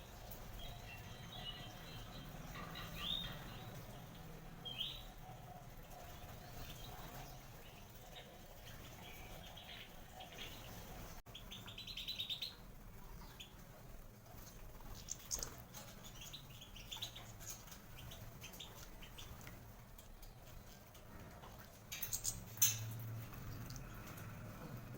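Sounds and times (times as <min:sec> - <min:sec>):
finch chirping and twittering: 0:00.0 - 0:23.3.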